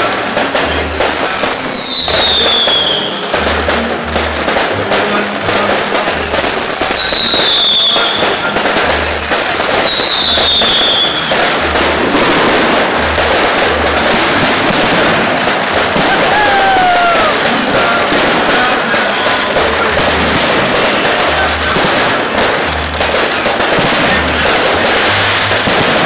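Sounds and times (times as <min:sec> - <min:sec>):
falling firework whistles: 0:00.0 - 0:04.8, 0:05.6 - 0:26.0
fireworks bursting and crackling: 0:00.0 - 0:26.0.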